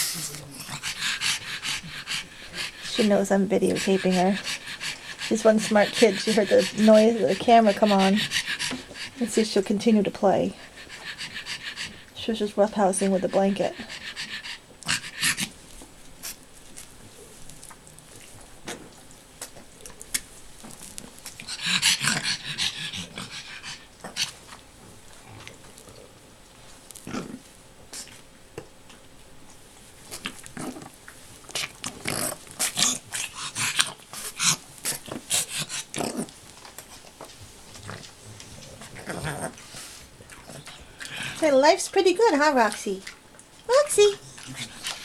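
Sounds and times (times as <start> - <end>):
dog noises: 0.0 - 28.2, 29.8 - 45.0.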